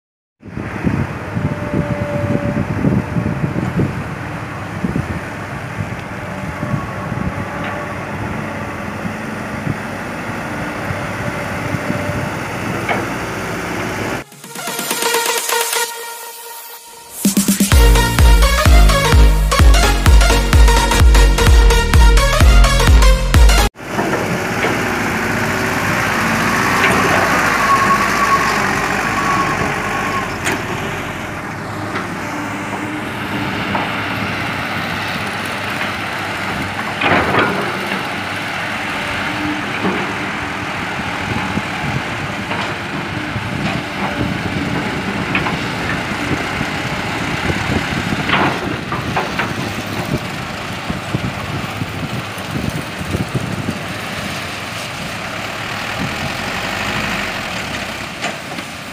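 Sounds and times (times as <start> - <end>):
diesel truck engine running: 0.4 - 16.6, 17.2 - 58.9.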